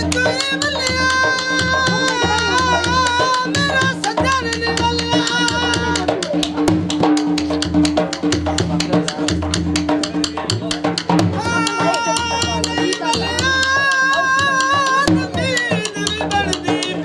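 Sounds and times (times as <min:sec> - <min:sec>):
dhol drum beating: 0:00.0 - 0:17.0.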